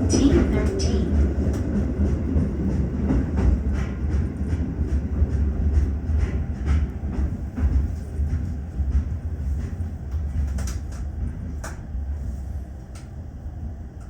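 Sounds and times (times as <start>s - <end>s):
subway train rumble: 0.0s - 14.0s.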